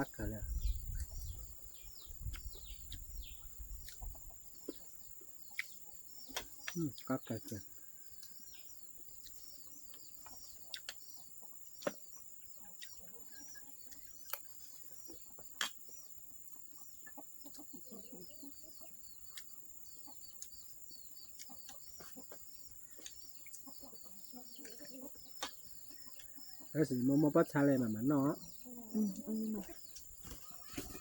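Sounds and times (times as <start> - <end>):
birds chirping rapidly: 0.0 - 31.0.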